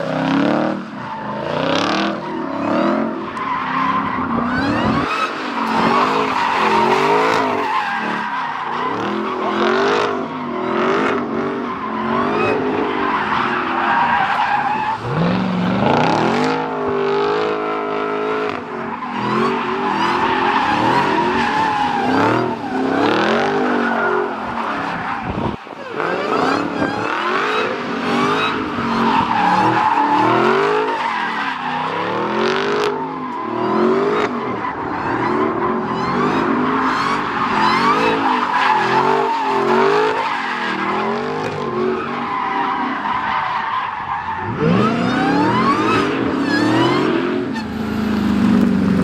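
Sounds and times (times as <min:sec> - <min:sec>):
car engine revving: 0:00.0 - 0:42.9, 0:44.4 - 0:49.0
tyre squeal: 0:01.0 - 0:15.5, 0:18.9 - 0:49.0.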